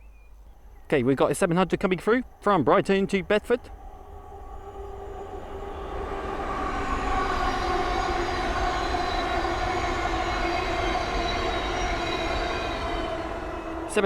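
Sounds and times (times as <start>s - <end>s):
electric train whine: 0.0s - 14.0s
train rushing past: 1.2s - 14.0s.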